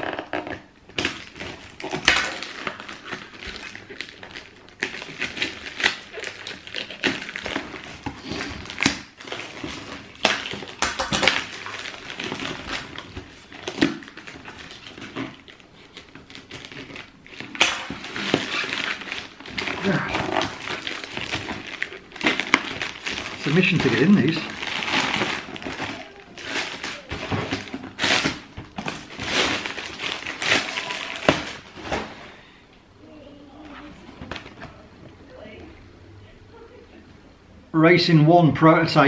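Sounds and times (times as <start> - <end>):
paper and cardboard rustling: 1.0 - 32.3.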